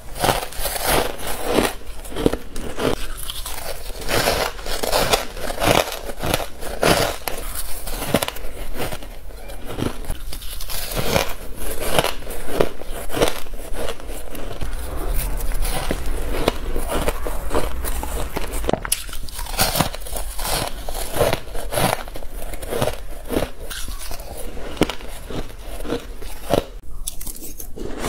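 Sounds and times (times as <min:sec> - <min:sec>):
shaved ice crunching: 0:00.0 - 0:28.0.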